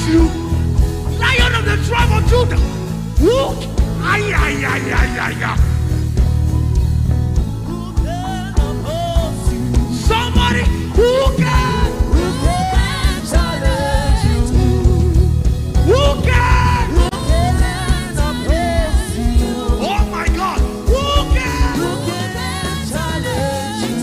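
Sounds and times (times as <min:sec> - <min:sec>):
person singing: 0:00.0 - 0:05.9, 0:07.6 - 0:24.0
band playing bass and drums: 0:00.0 - 0:24.0.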